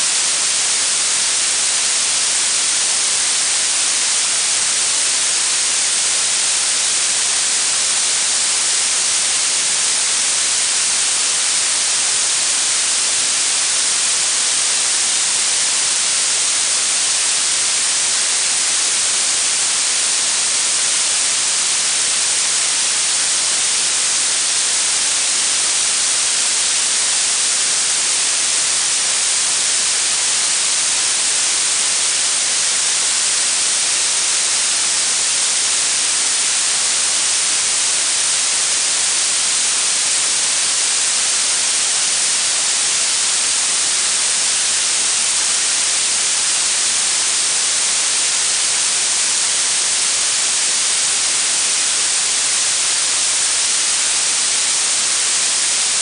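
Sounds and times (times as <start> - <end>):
steady high hiss: 0.0 - 56.0.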